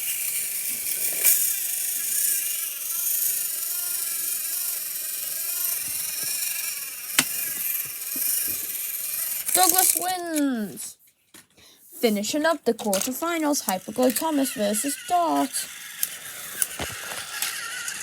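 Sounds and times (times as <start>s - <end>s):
toy train motors whirring: 0.0s - 10.9s, 11.8s - 18.0s.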